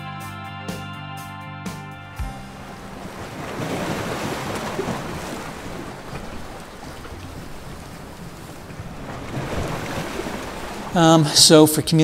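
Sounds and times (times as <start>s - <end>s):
ocean waves washing: 2.1s - 12.0s.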